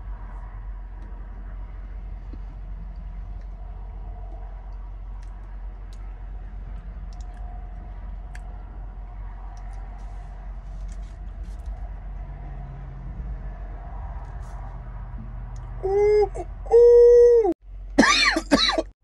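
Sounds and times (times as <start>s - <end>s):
truck cab low rumble: 0.0s - 18.9s.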